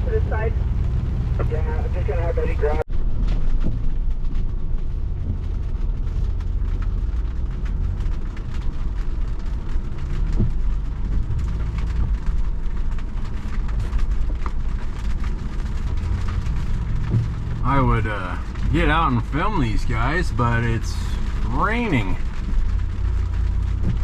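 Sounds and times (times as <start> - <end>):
rain ticking on vehicle body: 0.0 - 24.0
vehicle engine running low: 0.0 - 24.0.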